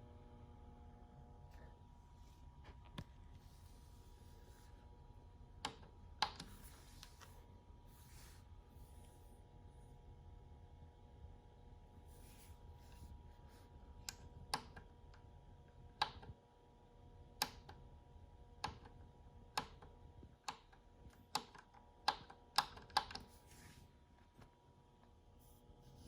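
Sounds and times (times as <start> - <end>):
faint steady electronic hum: 0.0 - 26.0.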